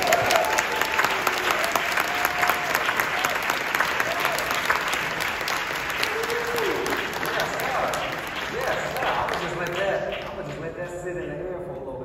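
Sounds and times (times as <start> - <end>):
people cheering: 0.0 - 10.0
audience applauding: 0.0 - 11.1.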